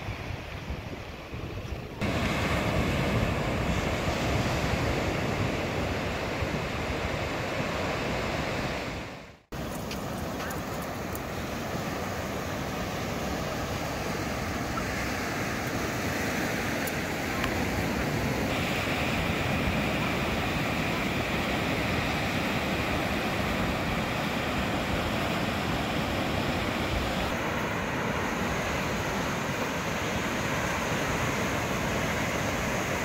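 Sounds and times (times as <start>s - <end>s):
ocean waves breaking on shore: 0.0s - 33.0s.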